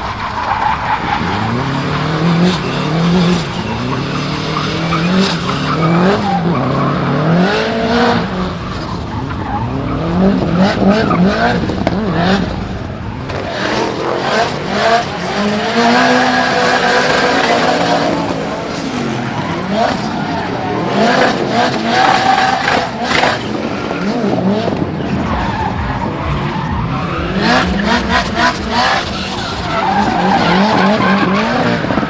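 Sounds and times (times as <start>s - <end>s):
car engine revving: 0.0s - 32.0s
tyres squealing: 0.0s - 32.0s.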